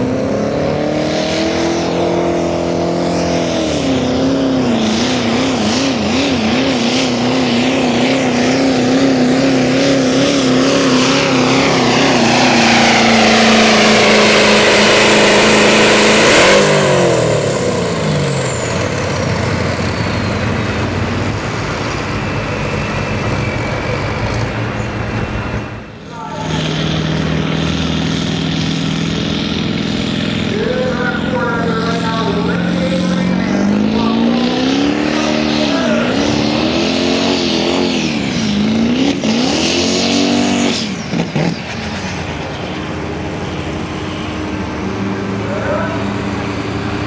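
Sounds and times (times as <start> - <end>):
truck engine roaring under load: 0.0 - 47.0.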